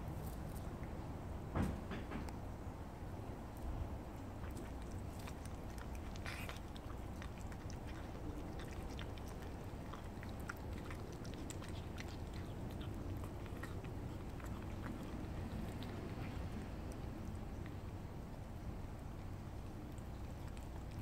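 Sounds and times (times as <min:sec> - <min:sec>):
low background rumble: 0:02.4 - 0:21.0
cat chewing wet food: 0:04.1 - 0:21.0.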